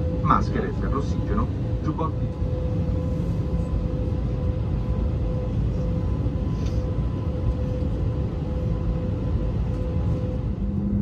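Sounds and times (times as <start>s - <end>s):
aircraft engines idling: 0.0s - 11.0s.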